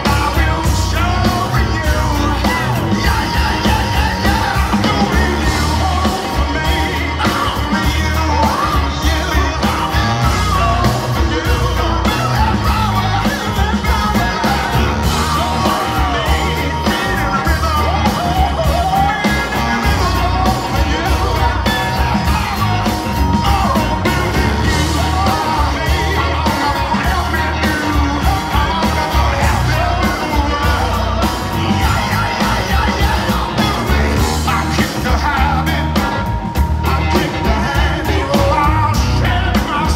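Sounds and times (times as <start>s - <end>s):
man singing into microphone: 0.0s - 39.9s
rock band playing: 0.0s - 39.9s.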